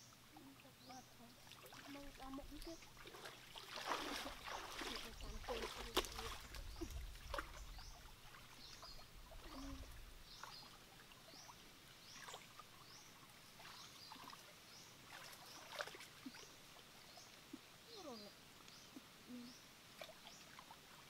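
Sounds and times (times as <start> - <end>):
water sloshing and splashing: 0.2 - 17.7, 19.9 - 21.0.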